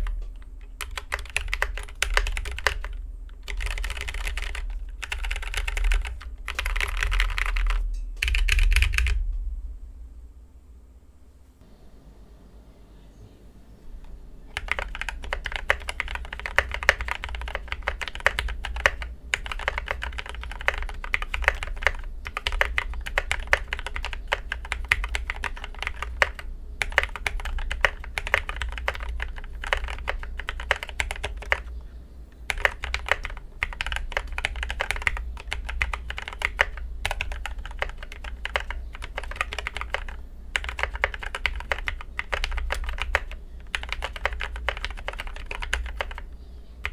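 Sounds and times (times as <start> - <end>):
mechanical keyboard typing: 0.0 - 9.2, 14.5 - 31.8, 32.4 - 46.9.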